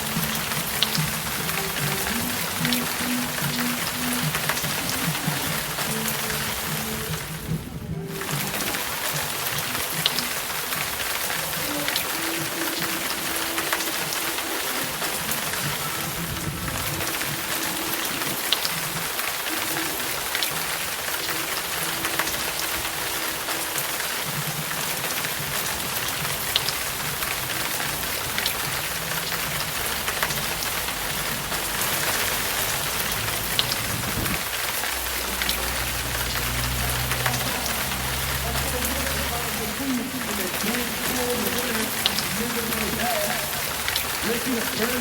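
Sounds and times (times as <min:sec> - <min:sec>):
rain falling: 0:00.0 - 0:45.0
sharp raindrop ticks: 0:00.0 - 0:45.0.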